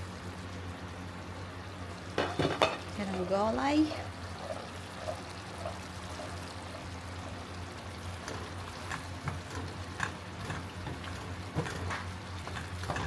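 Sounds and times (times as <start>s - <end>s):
food simmering in a pan: 0.0s - 13.0s
steady low hum: 0.0s - 13.0s.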